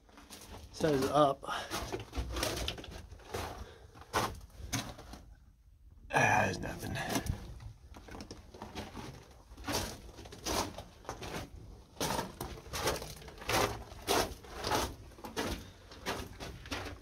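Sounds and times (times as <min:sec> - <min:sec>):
footsteps crunching on gravel: 0:00.1 - 0:05.0, 0:08.0 - 0:17.0.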